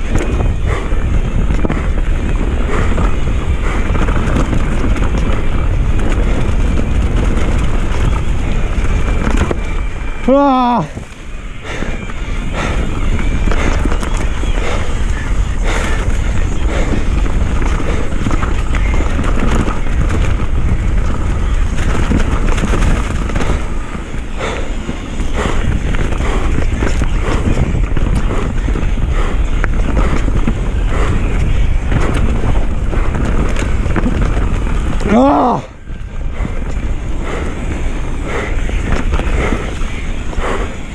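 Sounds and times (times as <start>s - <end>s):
bike rattling over bumps: 0.0s - 40.9s
bike tyre noise: 0.0s - 40.9s
wind buffeting microphone: 0.0s - 40.9s.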